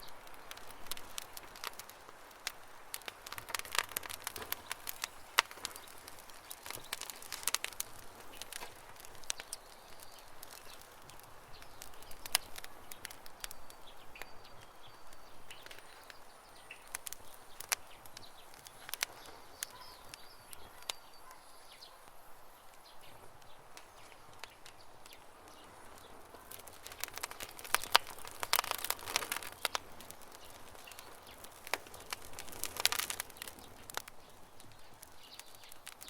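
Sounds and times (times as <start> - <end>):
campfire crackling and popping: 0.0 - 36.0
small birds chirping: 0.0 - 36.0.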